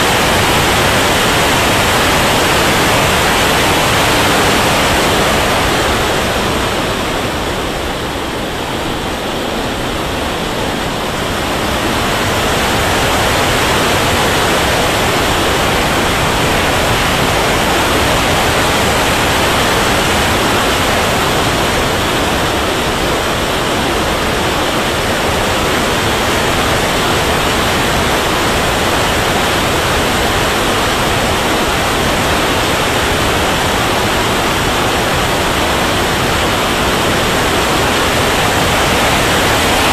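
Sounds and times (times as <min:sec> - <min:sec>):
rushing airflow and turbine noise: 0:00.0 - 0:39.9.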